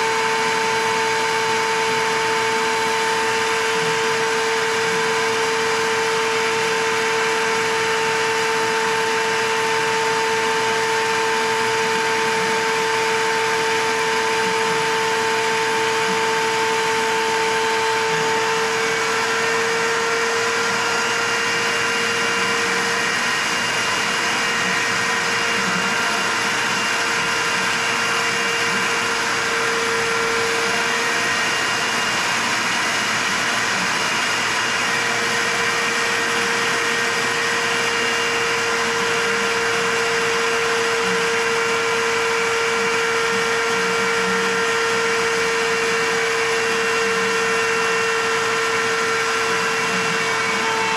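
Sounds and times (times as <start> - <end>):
shop vacuum whining: 0.0 - 50.9.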